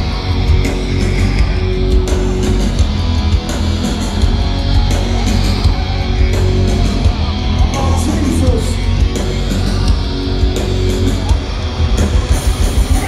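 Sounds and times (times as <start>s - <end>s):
distorted electric guitars: 0.0s - 13.0s
drums and crashing cymbals: 0.0s - 13.0s.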